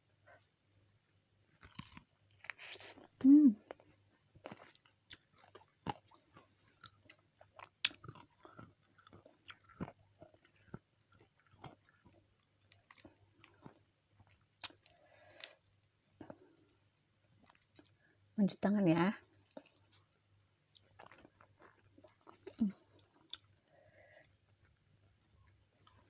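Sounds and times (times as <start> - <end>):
person chewing food: 1.5 - 18.1, 19.4 - 26.0.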